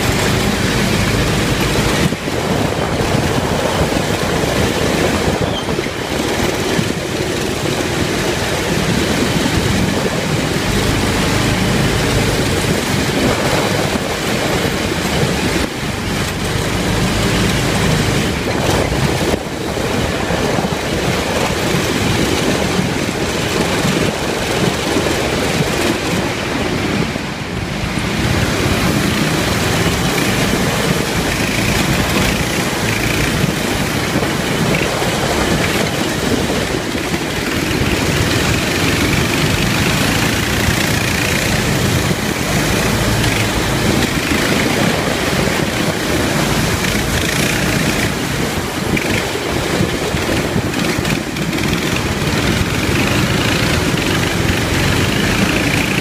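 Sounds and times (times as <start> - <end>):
bumper cars engine and motion noise: 0.0 - 56.0.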